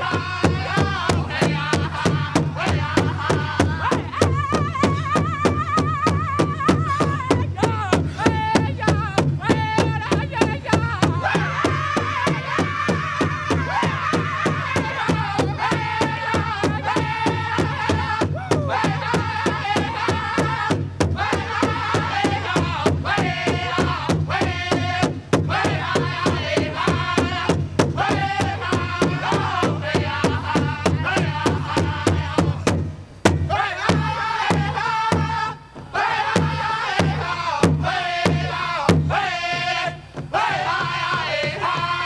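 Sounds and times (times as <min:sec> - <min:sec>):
voices chanting: 0:00.0 - 0:32.7, 0:33.4 - 0:42.0
large drum steady beat: 0:00.0 - 0:42.0.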